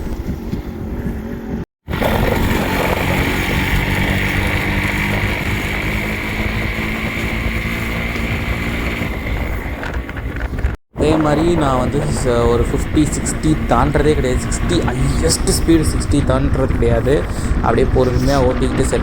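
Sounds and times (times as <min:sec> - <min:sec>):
motorcycle engine running: 0:01.4 - 0:19.0.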